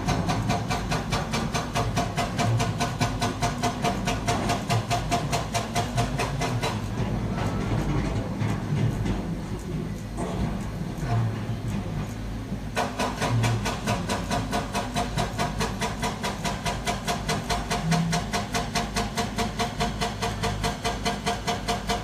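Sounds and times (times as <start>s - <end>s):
excavator tracks clanking: 0.0s - 22.0s.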